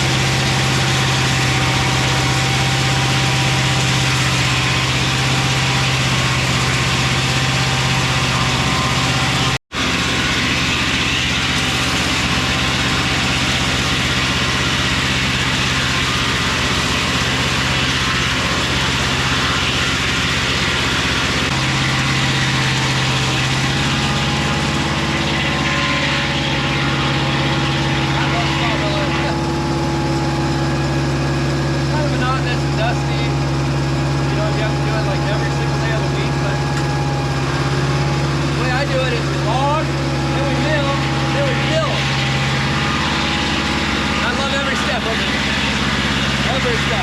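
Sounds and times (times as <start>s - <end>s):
sawmill engine running: 0.0s - 47.0s.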